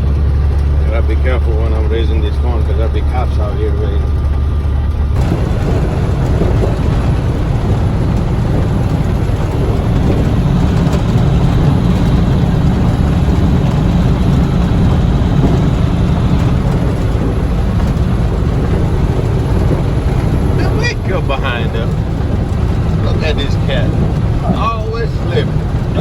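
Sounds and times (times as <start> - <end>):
diesel engine drone: 0.0 - 26.0
road noise: 0.0 - 26.0.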